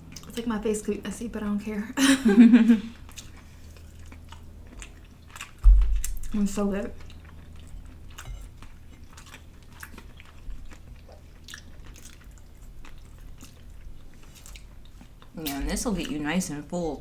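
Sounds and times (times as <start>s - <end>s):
low steady hum: 0.0s - 17.0s
people chewing: 2.6s - 16.6s.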